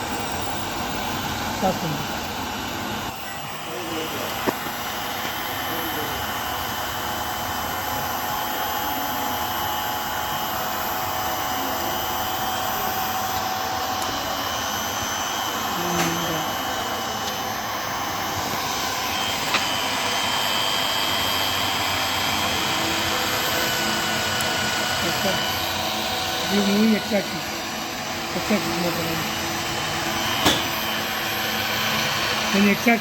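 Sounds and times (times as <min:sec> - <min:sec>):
milling motor whine and hiss: 0:00.0 - 0:33.0.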